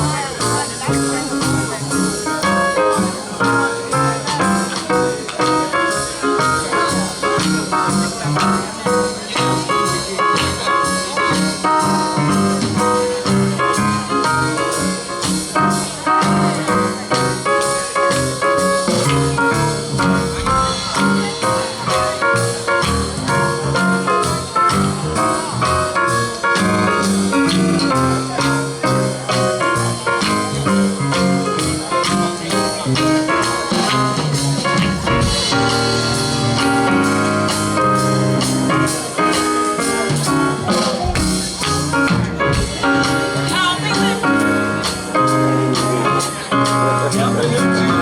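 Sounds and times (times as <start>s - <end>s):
steady drum beat: 0.0s - 47.8s
gospel band instrumental: 0.0s - 48.0s.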